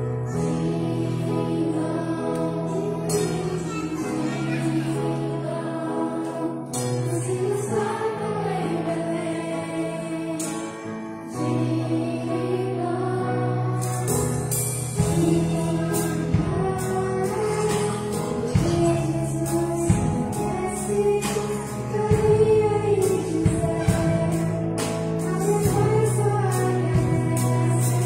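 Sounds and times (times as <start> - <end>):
bass and piano: 0.0 - 28.0
children's choir singing: 0.2 - 28.0.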